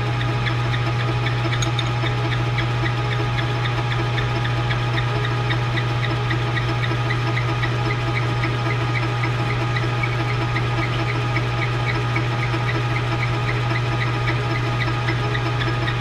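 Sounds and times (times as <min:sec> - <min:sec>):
lathe motor hum: 0:00.0 - 0:16.0.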